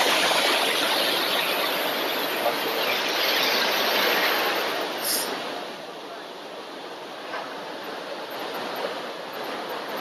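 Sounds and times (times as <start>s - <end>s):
heavy surf breaking on sand: 0.0s - 10.0s.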